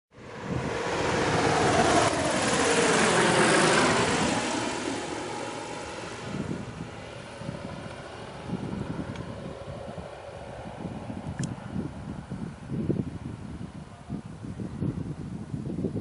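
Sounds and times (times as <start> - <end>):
propeller airplane passing: 0.2 - 15.0.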